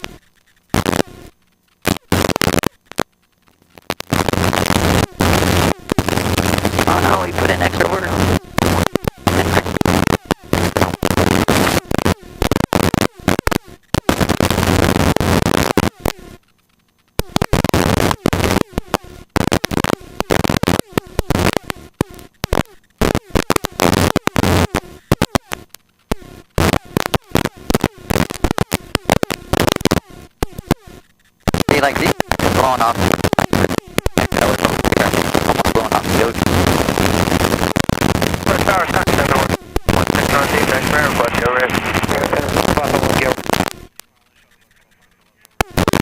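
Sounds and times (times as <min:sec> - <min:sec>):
low hum: 0:00.0 - 0:45.8
crackling helicopter cabin noise: 0:00.0 - 0:46.0.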